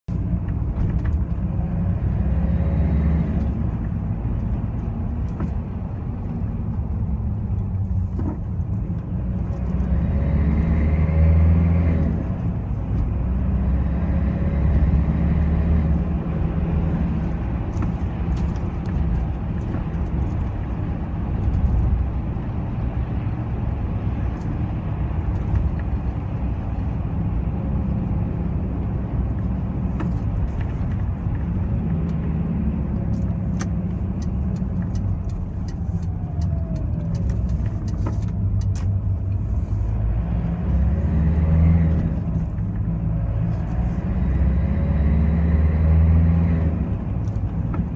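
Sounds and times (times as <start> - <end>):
diesel engine accelerating: 0.0 - 47.9.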